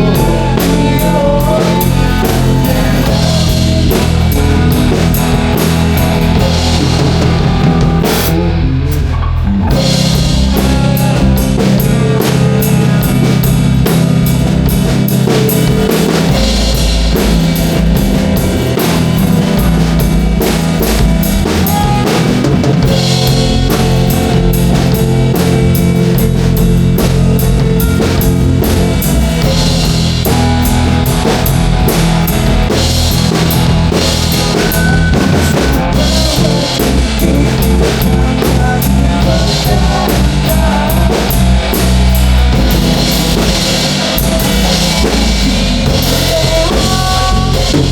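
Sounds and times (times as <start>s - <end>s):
drum kit: 0.0s - 47.9s
rock band instrumental: 0.0s - 47.9s.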